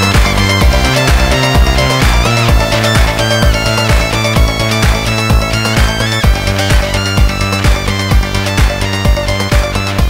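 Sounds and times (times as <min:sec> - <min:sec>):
sustained notes: 0:00.0 - 0:09.6
music with steady drum beat: 0:00.0 - 0:10.0.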